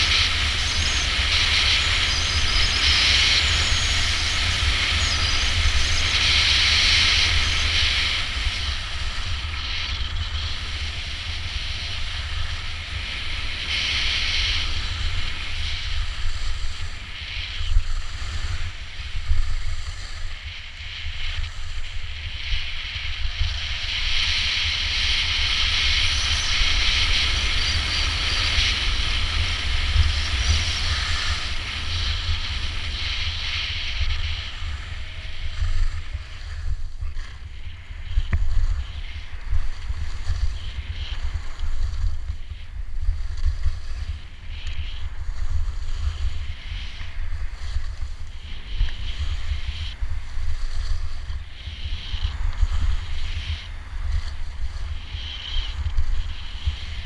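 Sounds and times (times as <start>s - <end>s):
skis scraping over snow: 0.0s - 57.0s
wind buffeting microphone: 0.0s - 57.0s.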